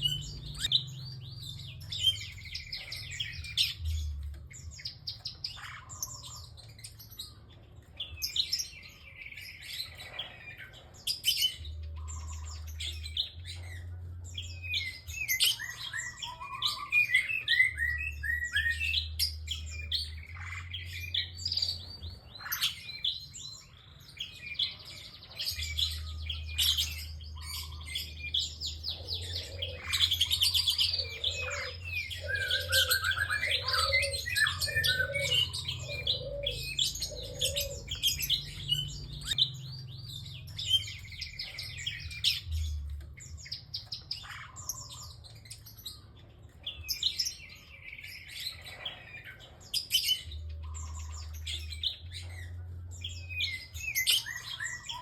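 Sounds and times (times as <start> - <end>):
bird chirps and trills: 0.0 - 55.0.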